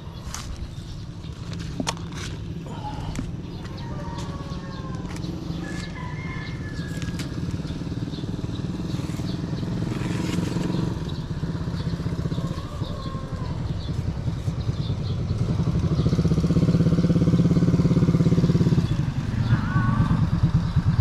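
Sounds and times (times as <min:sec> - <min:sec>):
small engine pulsing rumble: 0:00.0 - 0:21.0.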